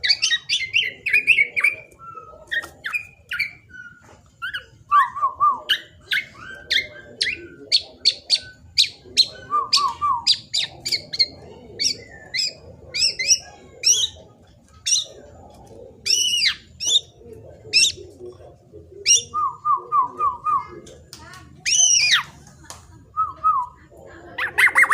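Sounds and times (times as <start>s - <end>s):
oriole calling: 0.0s - 20.7s, 24.3s - 24.9s.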